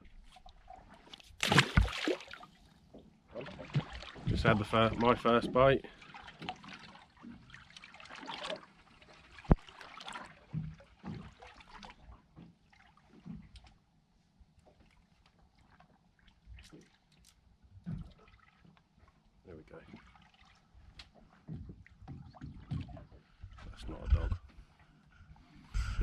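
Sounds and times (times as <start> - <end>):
water lapping against boat hull: 0.0 - 26.0.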